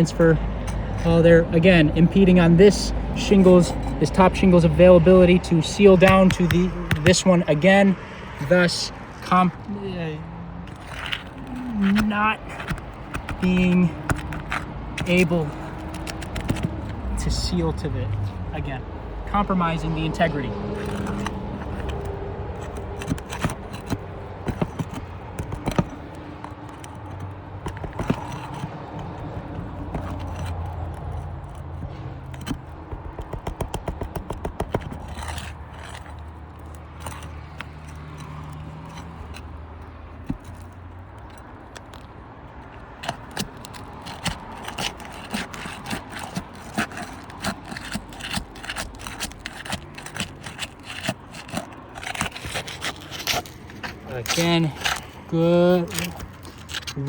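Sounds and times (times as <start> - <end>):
tool scraping under shingles: 0.0 - 57.0.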